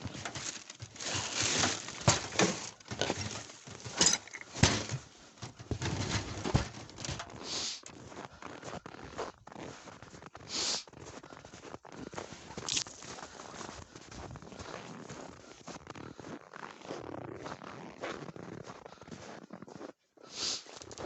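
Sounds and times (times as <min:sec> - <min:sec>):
footsteps crunching in snow: 0:00.0 - 0:21.0.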